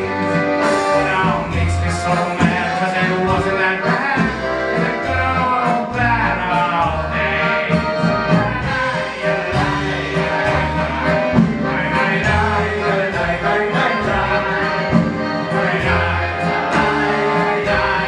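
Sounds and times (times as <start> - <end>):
bass line: 0.0 - 18.0
live klezmer band: 0.0 - 18.0.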